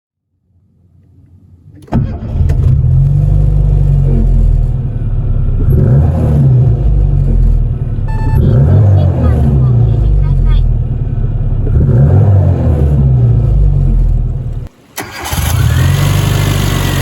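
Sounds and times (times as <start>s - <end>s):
car engine starting and revving: 1.7s - 17.0s.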